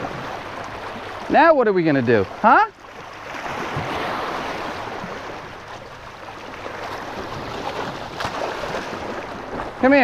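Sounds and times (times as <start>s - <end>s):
surf washing onto beach: 0.0s - 10.0s.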